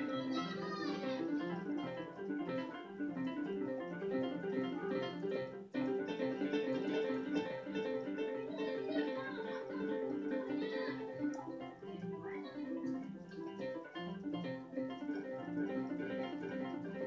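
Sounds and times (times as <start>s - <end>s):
rapid keyboard notes: 0.0s - 17.0s.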